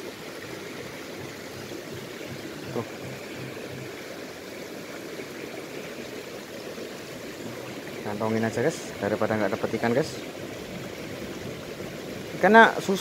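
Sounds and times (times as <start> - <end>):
river running over rocks: 0.0 - 13.0.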